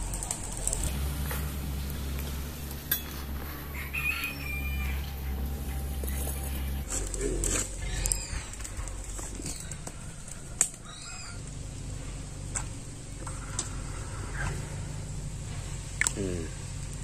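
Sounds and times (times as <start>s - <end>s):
small birds chirping: 0.0s - 17.0s
steady low background noise: 0.0s - 17.0s.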